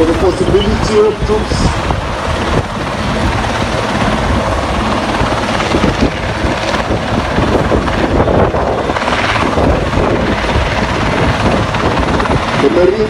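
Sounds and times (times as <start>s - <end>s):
helicopter rotors and turbines: 0.0s - 13.0s.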